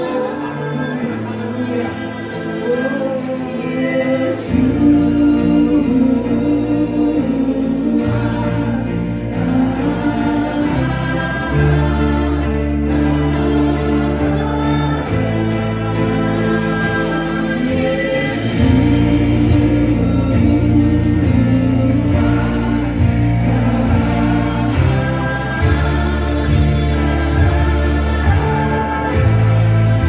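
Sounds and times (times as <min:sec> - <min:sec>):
voices singing held notes: 0:00.0 - 0:30.0
worship band playing slow song: 0:00.0 - 0:30.0.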